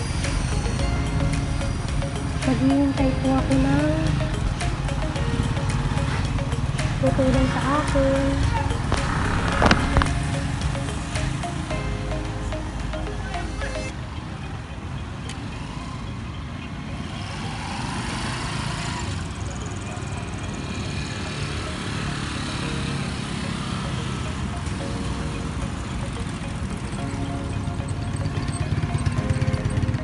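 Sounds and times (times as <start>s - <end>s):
motorcycle passing: 0.0s - 30.0s
road traffic passing: 0.0s - 30.0s.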